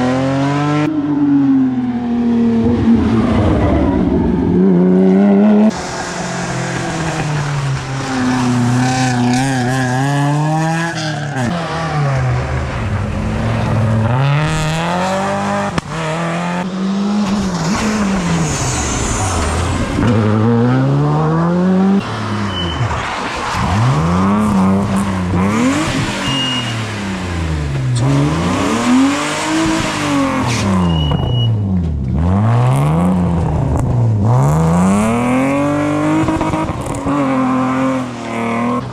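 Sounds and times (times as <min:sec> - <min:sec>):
cars passing by: 0:00.0 - 0:38.9
rally car engines revving: 0:00.0 - 0:38.9.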